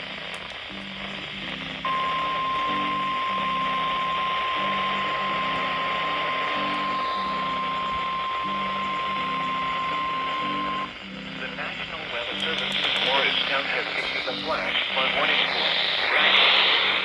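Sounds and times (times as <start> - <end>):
soft music chords: 0.0 - 17.0.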